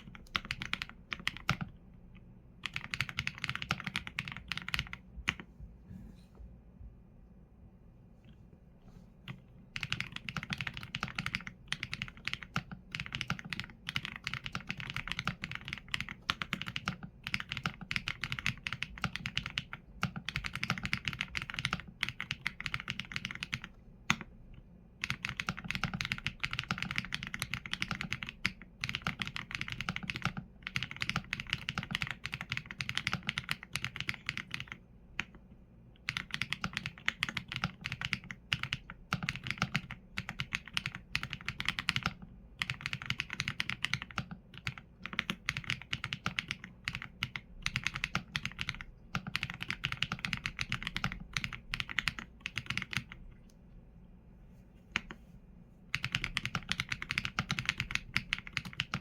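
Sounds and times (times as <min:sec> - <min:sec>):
mechanical keyboard typing: 0:00.0 - 0:01.8, 0:02.6 - 0:05.5, 0:09.3 - 0:24.3, 0:25.0 - 0:35.4, 0:36.0 - 0:53.2, 0:55.9 - 0:59.0.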